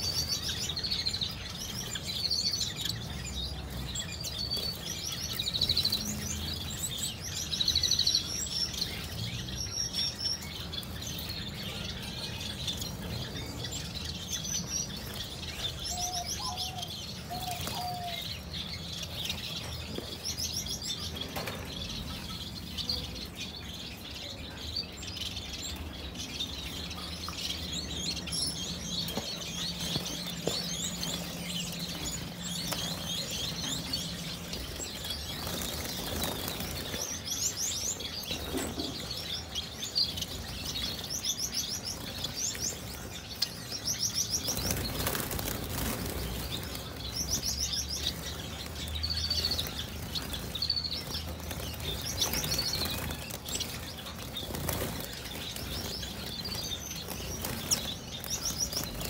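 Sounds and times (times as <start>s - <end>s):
cage birds chirping and trilling: 0.0s - 59.0s.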